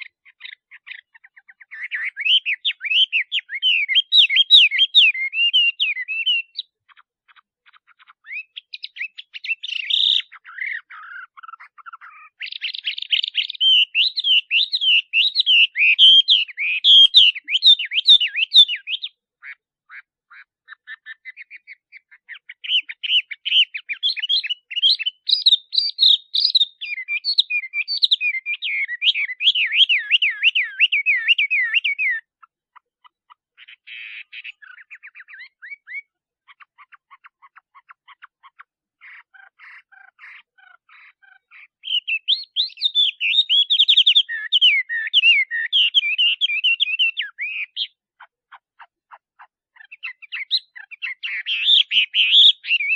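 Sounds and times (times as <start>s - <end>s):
bird singing whistled notes: 0.3s - 6.8s, 8.1s - 19.2s, 20.7s - 32.4s, 33.6s - 38.2s, 41.5s - 48.0s, 49.8s - 52.9s.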